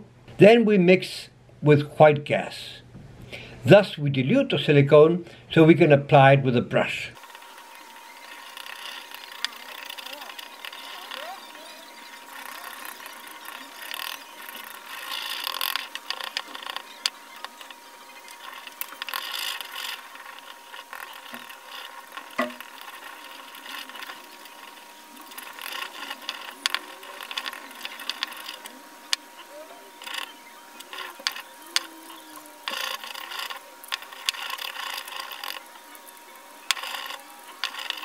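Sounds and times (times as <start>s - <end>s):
stick scraping plastic cup: 7.3s - 38.0s.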